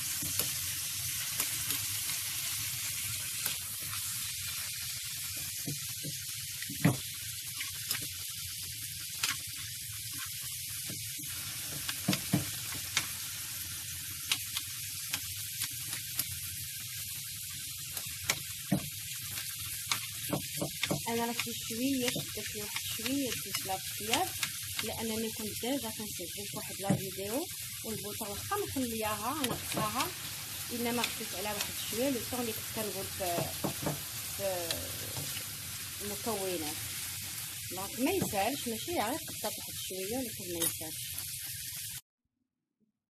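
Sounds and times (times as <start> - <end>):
food sizzling in a frying pan: 0.0 - 42.0.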